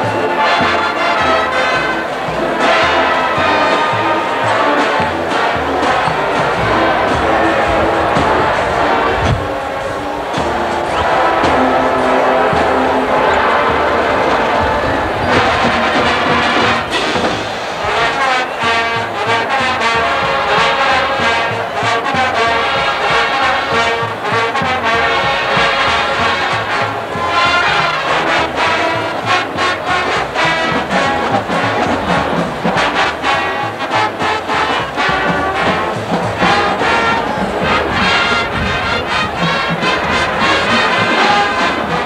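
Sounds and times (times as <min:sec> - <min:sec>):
marching band playing swing: 0:00.0 - 0:42.0
trombones and trumpets: 0:00.0 - 0:42.0.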